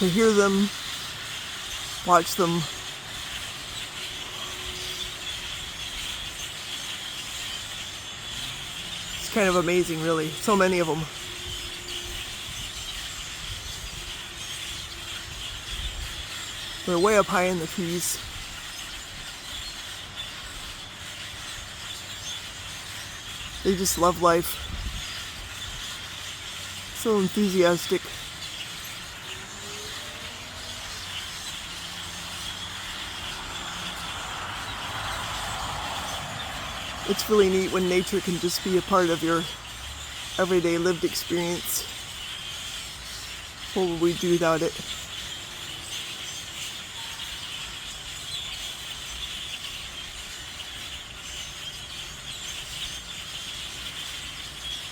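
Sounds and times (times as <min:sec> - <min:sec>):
flock of birds chattering: 0:00.0 - 0:54.9.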